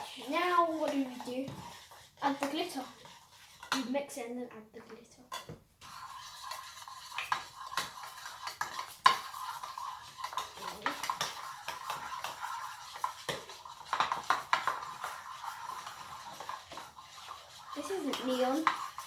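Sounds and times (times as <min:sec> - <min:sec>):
utensil clacking on bowl: 0:00.0 - 0:03.9, 0:05.3 - 0:19.0
utensil stirring slime in a bowl: 0:00.0 - 0:19.0.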